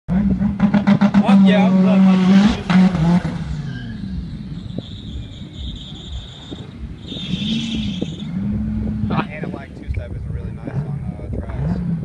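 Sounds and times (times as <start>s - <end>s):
car engine at full throttle: 0.1s - 12.0s.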